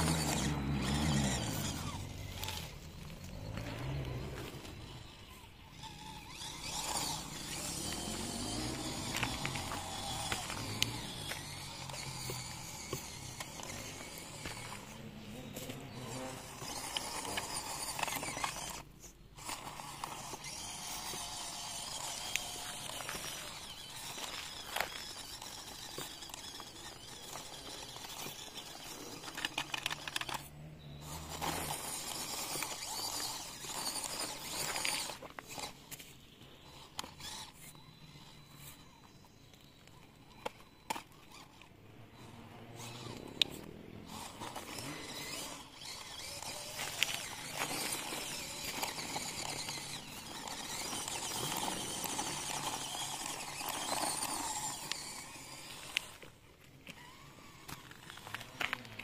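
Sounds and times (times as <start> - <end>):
small clicks and scrapes: 0.0 - 59.0
toy car electric motor whining: 0.0 - 59.0.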